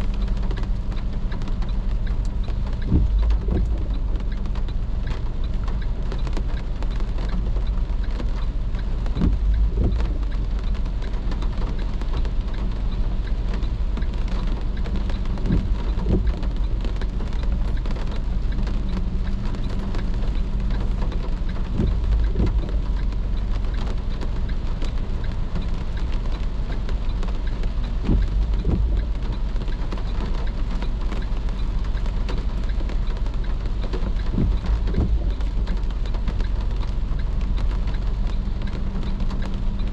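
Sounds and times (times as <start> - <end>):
rain on a moving car: 0.0 - 39.9
road and engine rumble: 0.0 - 39.9.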